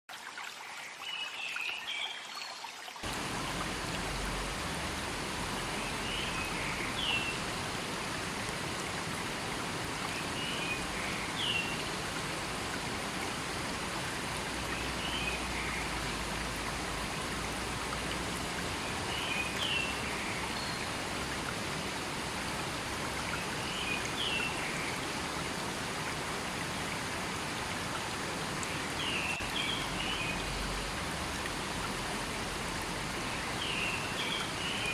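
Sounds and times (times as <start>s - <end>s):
river water rushing: 3.0s - 34.9s.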